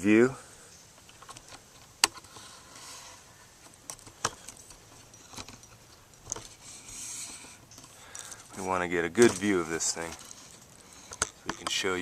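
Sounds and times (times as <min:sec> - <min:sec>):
soft hiss: 0:00.0 - 0:12.0
camera handling clicks and rustles: 0:00.7 - 0:03.0, 0:03.6 - 0:12.0.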